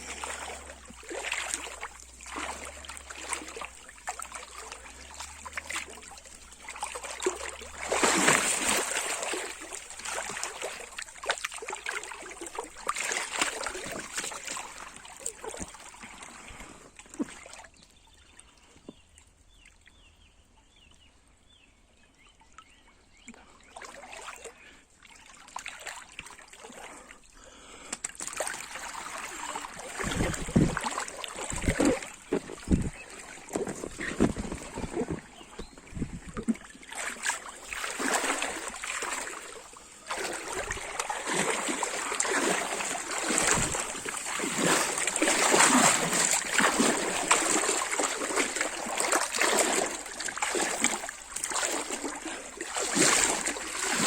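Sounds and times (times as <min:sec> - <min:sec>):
river water trickling and splashing: 0:00.0 - 0:54.0.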